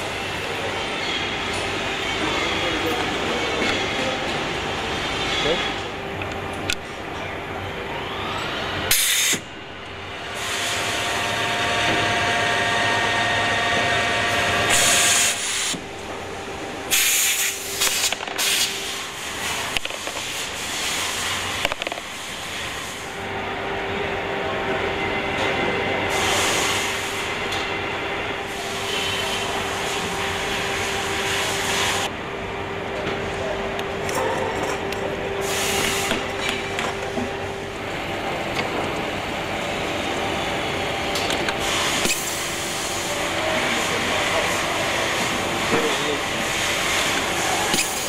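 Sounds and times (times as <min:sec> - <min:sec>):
factory machinery humming: 0:00.0 - 0:48.0.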